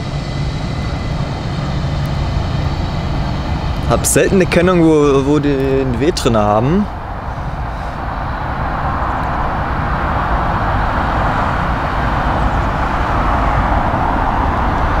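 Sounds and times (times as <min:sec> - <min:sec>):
jet engines whining at taxi power: 0:00.0 - 0:15.0.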